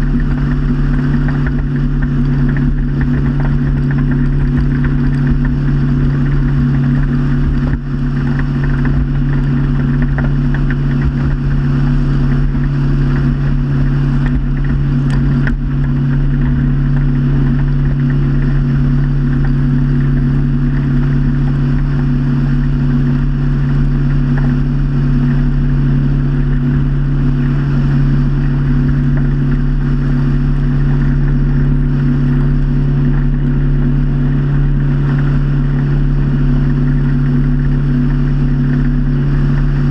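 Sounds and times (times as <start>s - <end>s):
motorboat engine droning: 0.0s - 39.9s.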